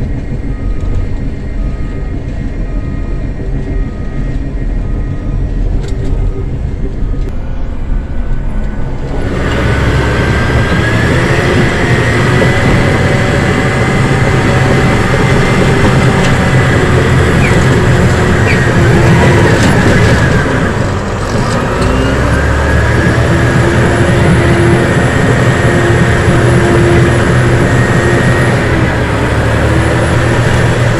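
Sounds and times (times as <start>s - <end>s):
bulldozer diesel engine: 0.0s - 30.9s.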